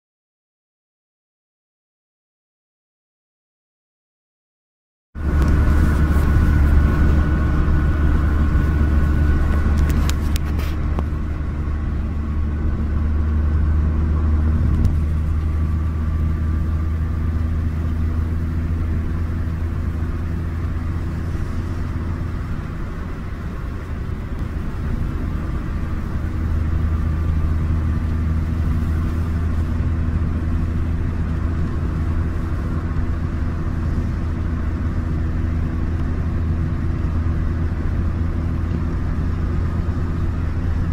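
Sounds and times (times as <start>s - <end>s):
road and wind noise: 5.2s - 40.9s
small car engine droning: 5.2s - 40.9s.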